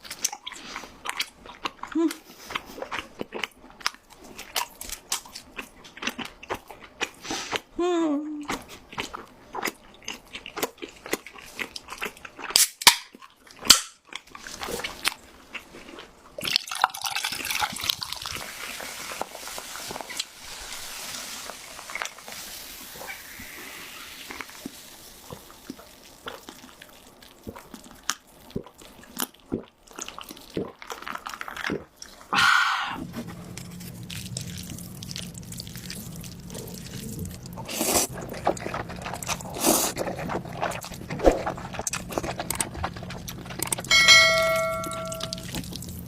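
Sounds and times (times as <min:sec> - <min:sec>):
wet chewing: 0:00.0 - 0:07.7, 0:08.4 - 0:20.3, 0:24.3 - 0:32.4, 0:33.0 - 0:46.0.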